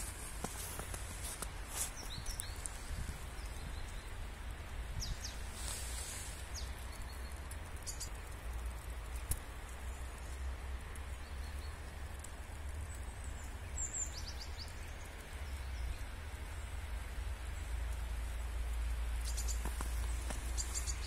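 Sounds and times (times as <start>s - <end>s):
low rumble with faint hiss: 0.0s - 21.0s
small birds chirping: 0.0s - 21.0s.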